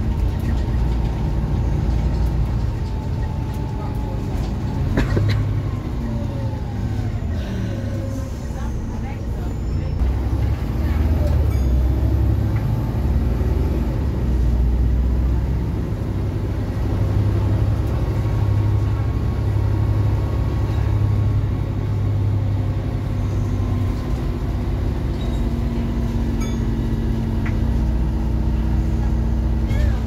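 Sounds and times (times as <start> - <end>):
bus engine drone from inside: 0.0 - 30.0.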